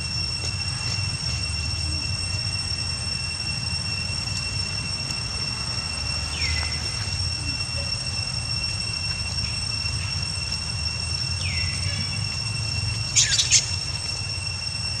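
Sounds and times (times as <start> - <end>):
high-pitched drone: 0.0 - 15.0.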